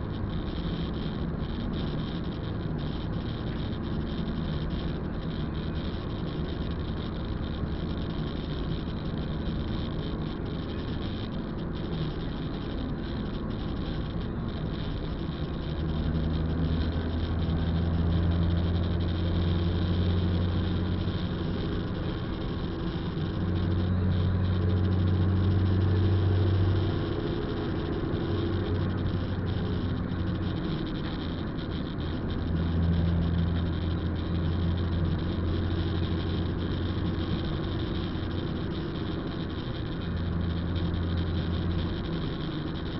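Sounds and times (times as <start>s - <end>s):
car engine drone: 0.0s - 42.9s
tyre and road noise: 0.0s - 42.9s.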